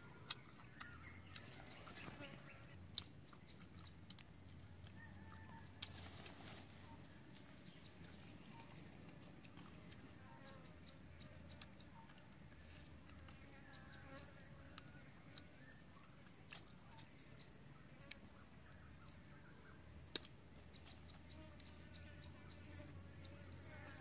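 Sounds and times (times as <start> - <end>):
forest insects buzzing: 0.0 - 24.0.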